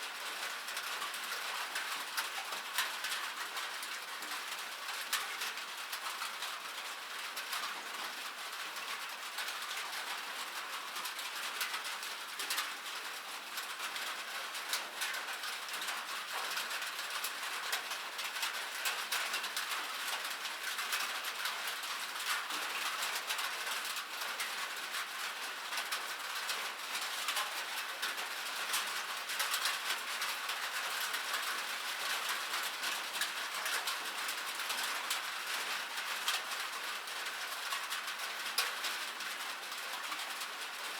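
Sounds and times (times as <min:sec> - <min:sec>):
rain on a metal surface: 0:00.0 - 0:40.9.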